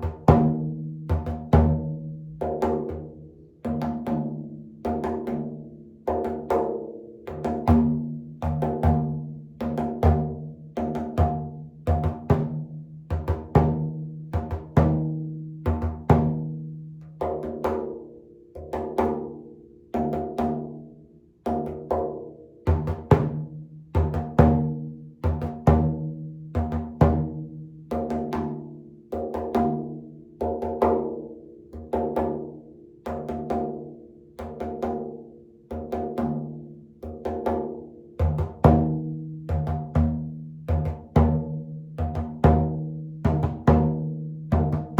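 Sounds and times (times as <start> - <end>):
frame drum struck by hand: 0.0 - 44.9.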